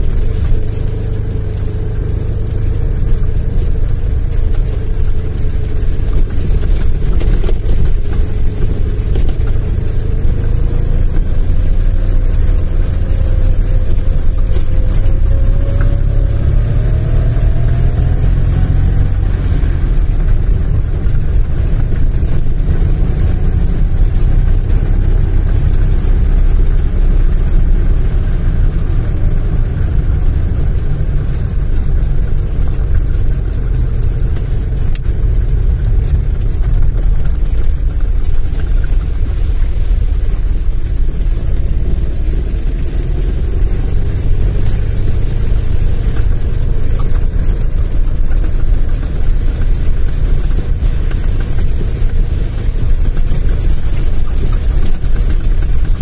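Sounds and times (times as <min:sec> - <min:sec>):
engine note climbing: 0:00.0 - 0:53.6
car engine and road rumble: 0:00.0 - 0:56.0.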